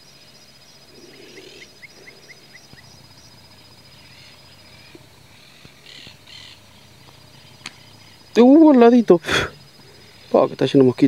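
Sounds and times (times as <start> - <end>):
insect-like trill: 0.0 - 11.0.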